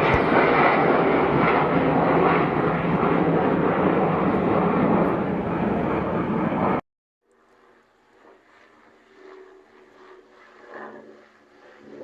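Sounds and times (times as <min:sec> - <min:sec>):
airplane passing overhead: 0:00.0 - 0:12.0.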